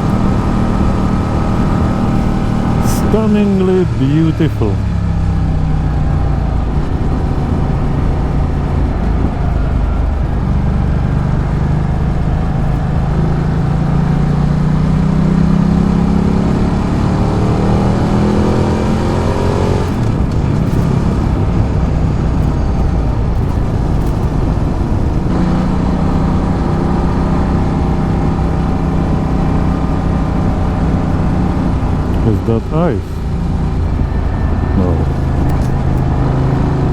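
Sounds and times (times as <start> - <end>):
motorcycle engine revving: 0.0 - 36.9
road and wind noise: 0.0 - 36.9.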